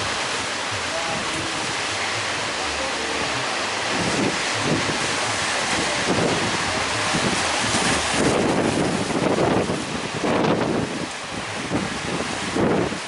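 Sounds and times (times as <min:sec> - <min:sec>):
ocean waves breaking: 0:00.0 - 0:13.0
wind buffeting microphone: 0:00.0 - 0:13.0.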